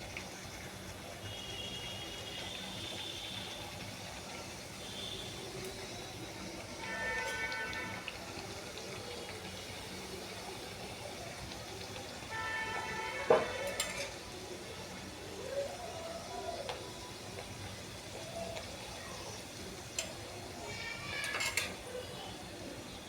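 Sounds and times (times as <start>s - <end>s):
food frying in oil: 0.0s - 23.0s.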